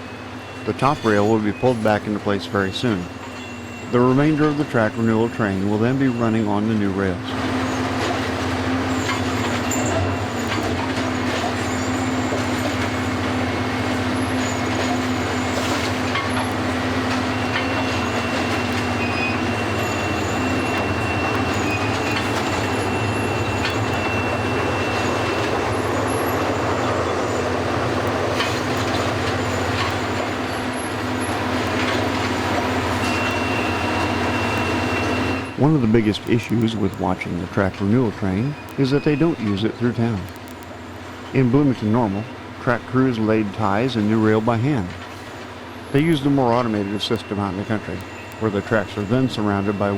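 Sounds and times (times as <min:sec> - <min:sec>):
high-pitched squeal: 0:00.0 - 0:49.9
machinery and diesel engine noise: 0:00.0 - 0:49.9.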